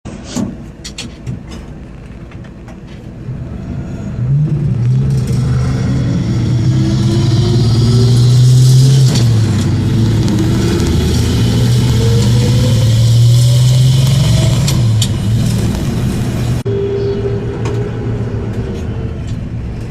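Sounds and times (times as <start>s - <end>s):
pickup engine accelerating: 2.9s - 19.9s.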